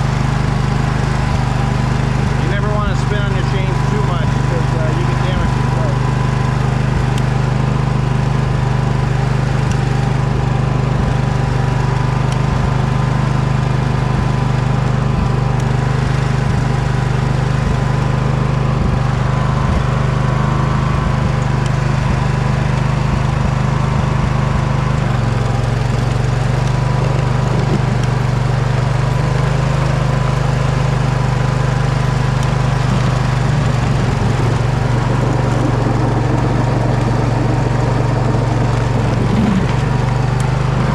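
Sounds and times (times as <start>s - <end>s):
riding mower engine running: 0.0s - 40.9s.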